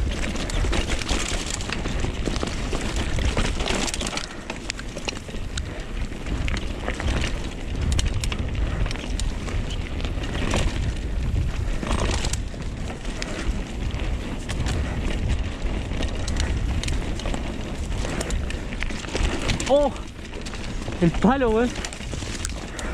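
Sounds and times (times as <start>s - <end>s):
bike frame and chain rattling: 0.0s - 22.9s
tyres crunching on dirt: 0.0s - 22.9s
wind buffeting microphone: 0.0s - 22.9s.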